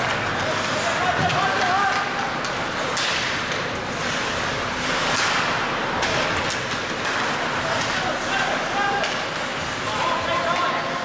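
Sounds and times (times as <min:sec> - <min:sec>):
hockey stick and puck clacks: 0:00.0 - 0:11.0
skates scraping on ice: 0:00.0 - 0:11.0.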